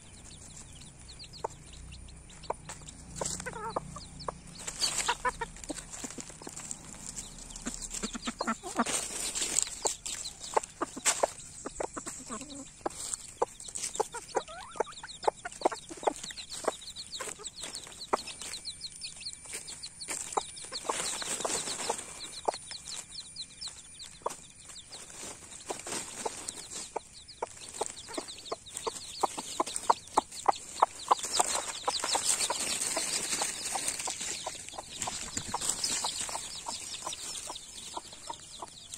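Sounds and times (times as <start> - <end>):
chicks peeping: 0.0 - 38.9
hen clucking: 0.0 - 38.9.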